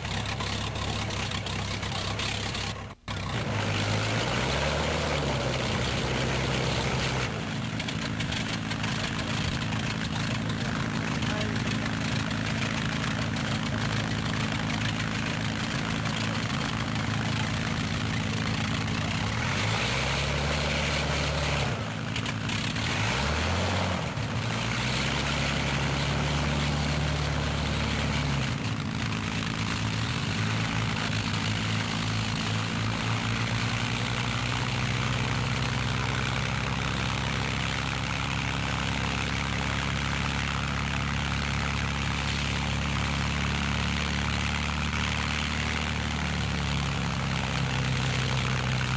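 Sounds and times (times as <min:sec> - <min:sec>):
propeller aircraft engine running: 0:00.0 - 0:48.9.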